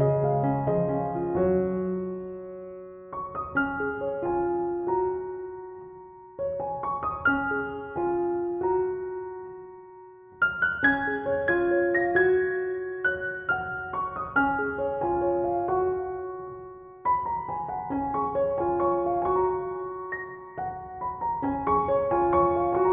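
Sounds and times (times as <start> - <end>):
gentle piano music: 0.0 - 22.9.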